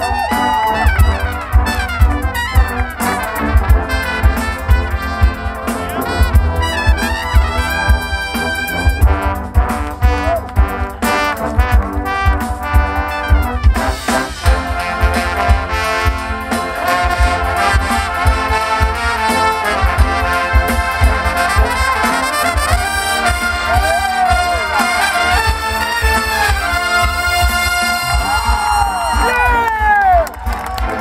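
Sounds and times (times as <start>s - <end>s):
brass line playing rock chords: 0.0s - 31.0s
drum kit beat: 0.0s - 31.0s.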